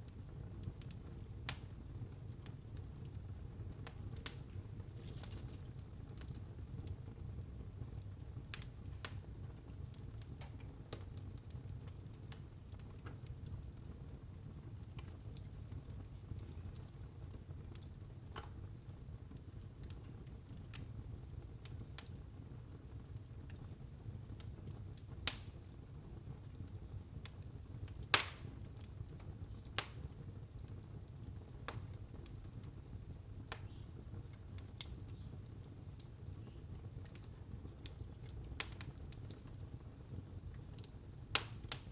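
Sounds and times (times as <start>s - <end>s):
fire crackling in fireplace: 0.0s - 41.9s.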